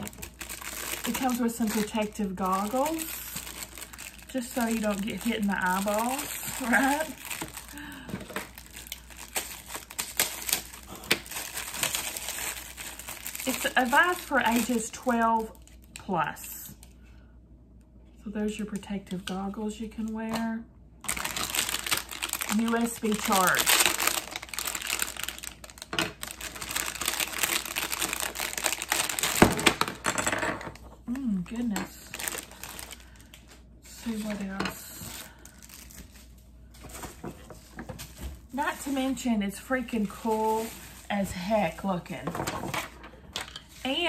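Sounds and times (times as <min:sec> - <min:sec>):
plastic packaging crinkling: 0:00.0 - 0:16.9, 0:21.0 - 0:44.0.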